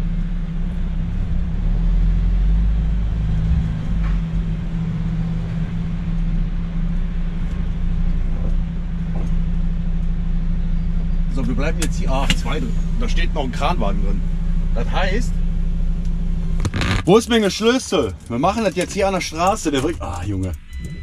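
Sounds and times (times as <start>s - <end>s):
truck diesel engine drone: 0.0s - 21.0s.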